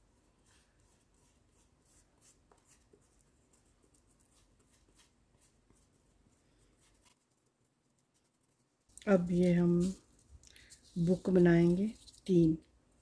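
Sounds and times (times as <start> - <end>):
paintbrush strokes on cardboard: 0.0 - 12.6.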